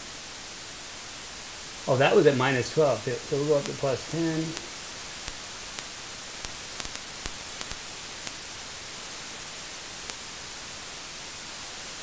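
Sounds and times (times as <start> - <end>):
mixer preamp hiss: 0.0 - 12.0.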